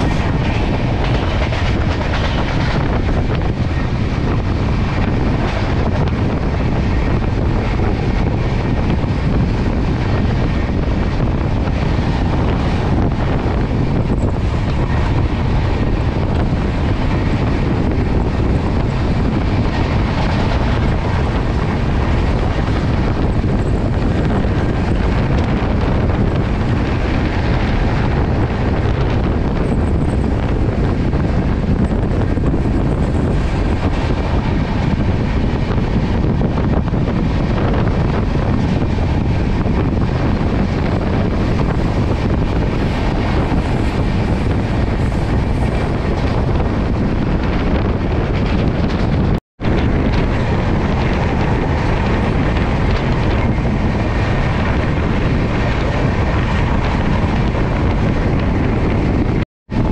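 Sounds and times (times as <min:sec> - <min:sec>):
train rushing and rolling: 0:00.0 - 0:59.9
wind buffeting microphone: 0:00.0 - 0:59.9.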